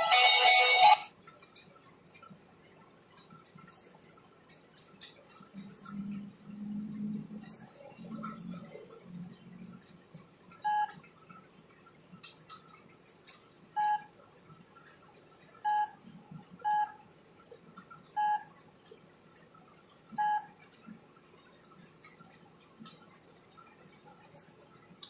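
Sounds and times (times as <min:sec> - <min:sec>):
faint clicks and taps: 0:01.1 - 0:25.0.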